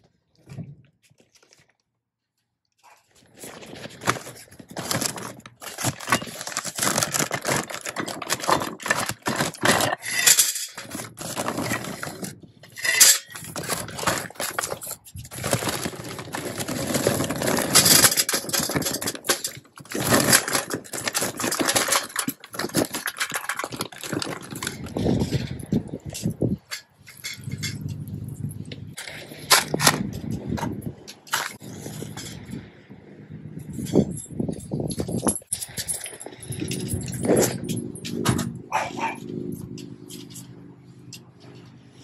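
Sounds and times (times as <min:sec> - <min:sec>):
hard pieces clinking and scraping: 0:03.1 - 0:32.7, 0:33.6 - 0:40.6.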